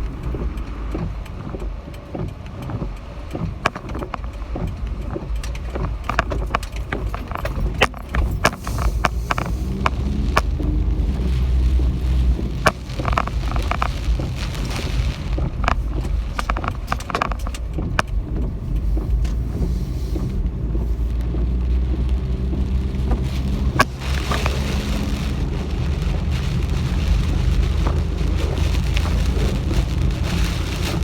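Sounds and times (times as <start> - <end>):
raindrops ticking: 0.0 - 31.0
wind and rain rumble: 0.0 - 31.0.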